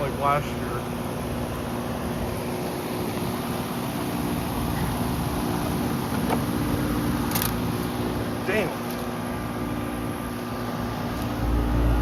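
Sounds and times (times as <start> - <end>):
air conditioner compressor hum: 0.0 - 12.0
condenser fan rushing: 0.0 - 12.0.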